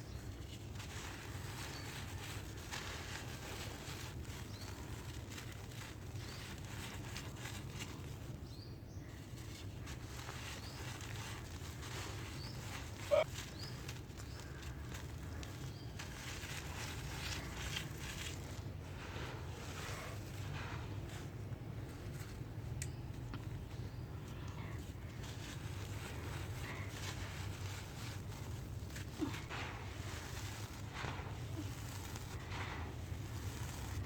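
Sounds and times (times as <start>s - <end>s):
dry dirt crumbling: 0.0s - 34.0s.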